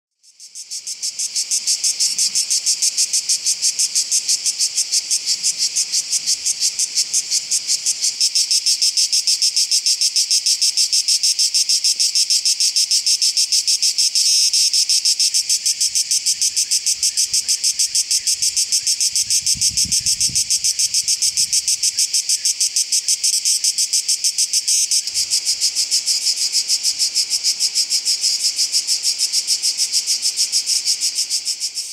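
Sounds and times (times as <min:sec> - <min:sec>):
cicada singing: 0:00.2 - 0:31.9.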